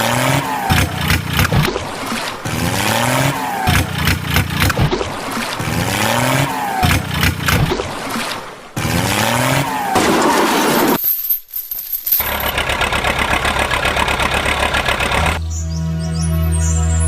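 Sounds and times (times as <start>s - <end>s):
vehicle engine rising and falling: 0.0s - 11.0s, 12.2s - 15.4s.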